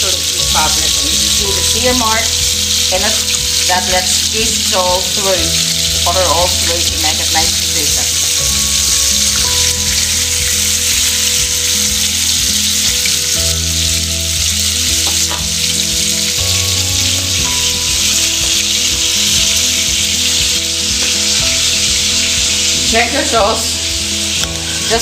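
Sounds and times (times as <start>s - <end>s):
meat sizzling in a frying pan: 0.0s - 25.0s.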